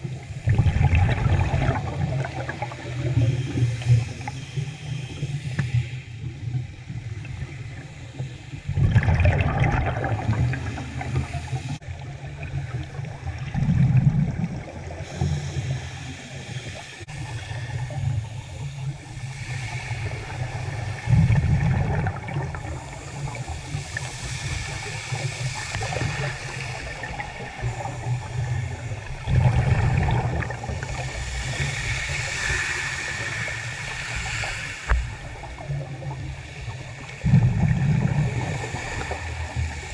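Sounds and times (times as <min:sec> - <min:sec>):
exhaled bubbles underwater: 0:00.0 - 0:39.9
muffled low water rumble: 0:00.0 - 0:39.9.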